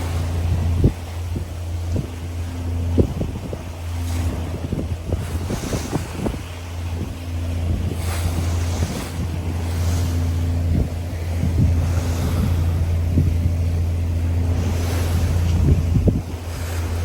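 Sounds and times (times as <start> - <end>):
diesel engine droning: 0.0 - 17.0
waves washing past hull: 0.0 - 17.0
wind gusting on microphone: 0.0 - 17.0.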